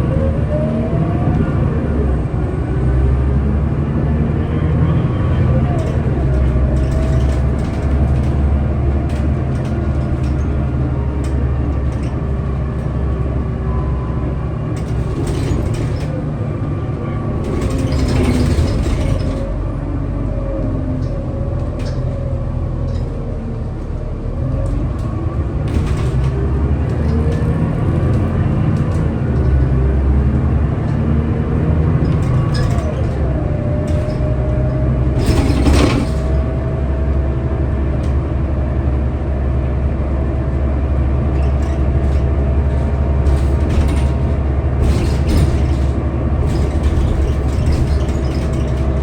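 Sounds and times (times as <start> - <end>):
bus diesel engine running: 0.0 - 49.0.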